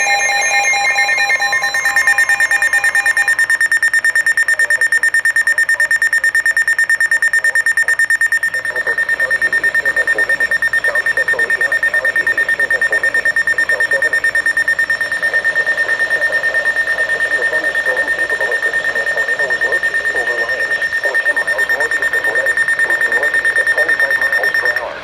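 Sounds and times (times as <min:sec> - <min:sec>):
beeping tones at other pitches: 0:00.0 - 0:25.0
rapid high alarm beeps: 0:00.0 - 0:25.0.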